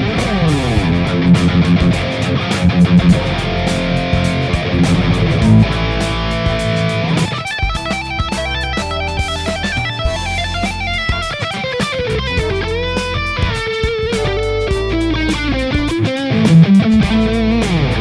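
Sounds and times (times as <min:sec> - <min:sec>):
backing track with drums and bass: 0:00.0 - 0:18.0
electric guitar lead: 0:00.0 - 0:18.0.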